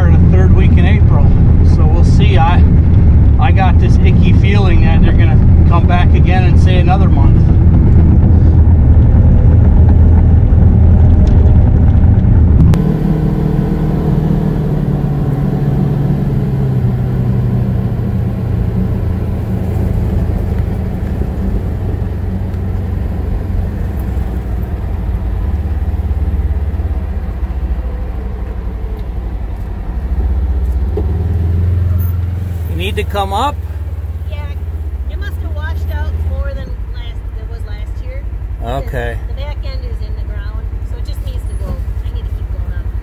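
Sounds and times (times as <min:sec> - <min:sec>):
vehicle engine drone: 0:00.0 - 0:43.0
excavator diesel engine running: 0:05.4 - 0:43.0.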